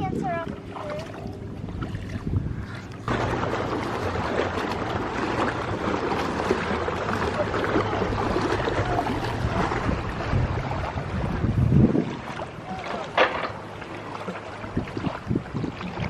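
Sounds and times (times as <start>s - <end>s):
seawater sloshing and splashing: 0.0s - 16.0s
wind rumbling on microphone: 0.0s - 16.0s.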